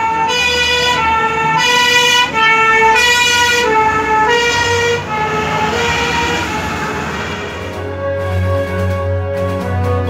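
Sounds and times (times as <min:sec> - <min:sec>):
two-tone emergency siren: 0:00.0 - 0:08.6.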